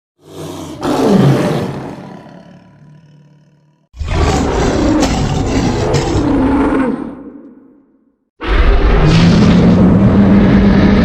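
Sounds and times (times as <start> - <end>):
monster roar: 0.2 - 7.4, 8.4 - 11.0.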